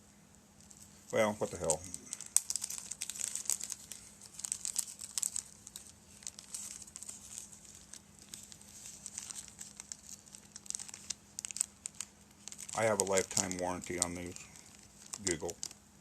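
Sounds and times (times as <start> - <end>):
plastic bag crinkling: 0.6 - 16.0.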